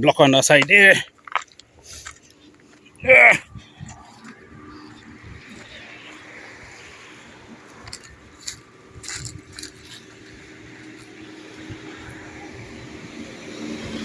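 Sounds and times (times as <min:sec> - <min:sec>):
footsteps over stones: 0:00.1 - 0:13.4.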